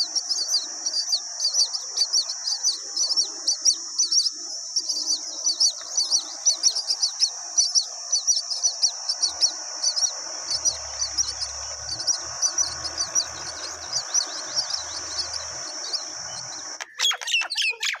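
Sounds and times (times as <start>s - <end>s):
steady high buzz: 0.0s - 17.0s
birds chirping rapidly: 0.0s - 18.0s
loud sweeping bird calls: 0.0s - 18.0s.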